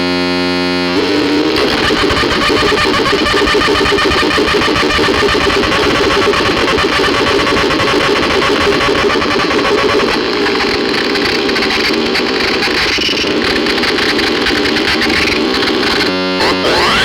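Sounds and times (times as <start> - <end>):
buzzing synthesizer drone: 0.0 - 17.0.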